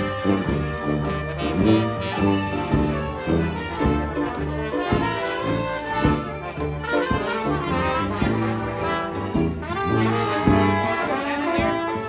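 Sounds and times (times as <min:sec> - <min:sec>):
drums: 0:00.0 - 0:12.0
trombones: 0:00.0 - 0:12.0
upright bass: 0:00.0 - 0:12.0.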